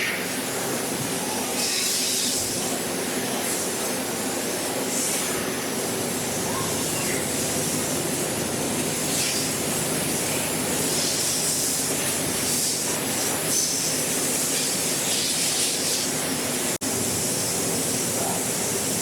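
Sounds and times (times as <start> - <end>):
high-pressure water spray hissing: 0.0 - 19.0.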